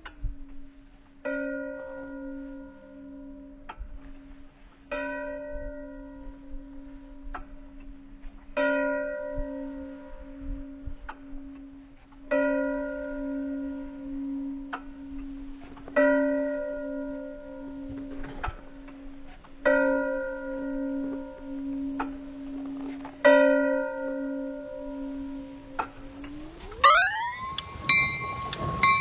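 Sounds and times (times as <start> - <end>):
train warning bell ringing: 0.0 - 29.0.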